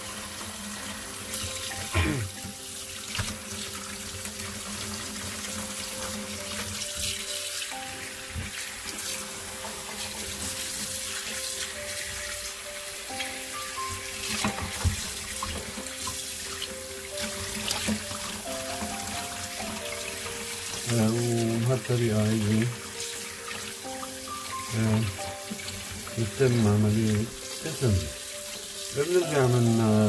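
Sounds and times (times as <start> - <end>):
fish rinsed by hand: 0.0 - 30.0
quiet background music: 0.0 - 30.0.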